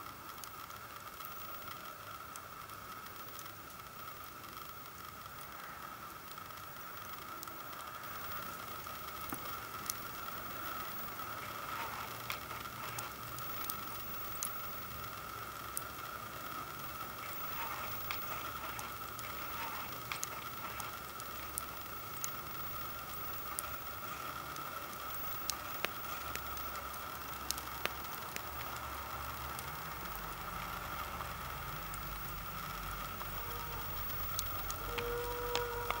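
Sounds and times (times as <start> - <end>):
campfire crackling: 0.0 - 36.0
fire popping and snapping: 0.0 - 36.0
steady background hiss: 0.0 - 36.0.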